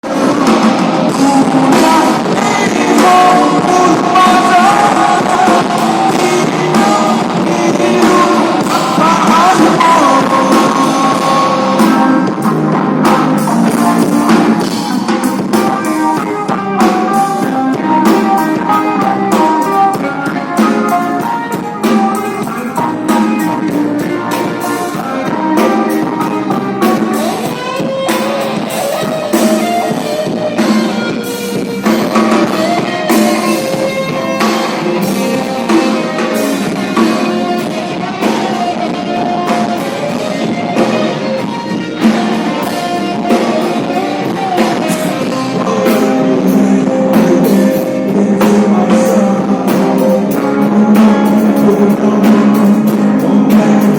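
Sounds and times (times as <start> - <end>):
drum kit: 0.0 - 53.9
guitar: 0.0 - 53.9
person singing: 0.0 - 53.9.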